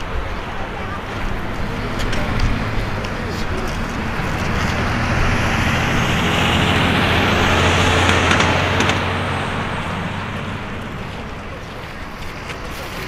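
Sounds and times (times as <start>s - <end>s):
jet aircraft climbing: 0.0s - 13.0s.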